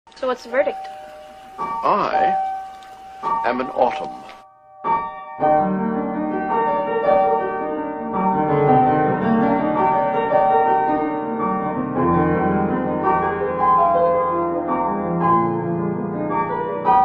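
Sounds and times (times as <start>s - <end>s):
gentle piano melody: 0.1s - 17.0s.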